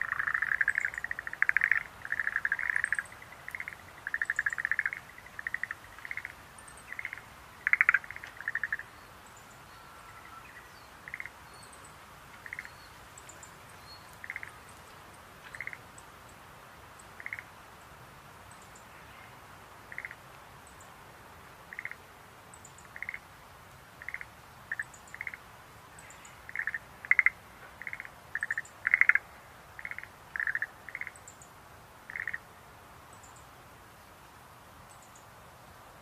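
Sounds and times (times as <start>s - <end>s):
tree frogs calling: 0.0s - 16.4s, 17.0s - 17.6s, 18.5s - 20.9s, 21.7s - 23.3s, 23.9s - 32.5s.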